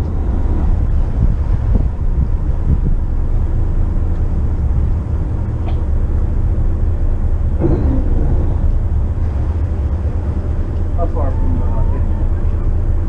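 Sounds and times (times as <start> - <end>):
boat engines rumbling: 0.0 - 13.0
wind buffeting microphone: 0.0 - 13.0.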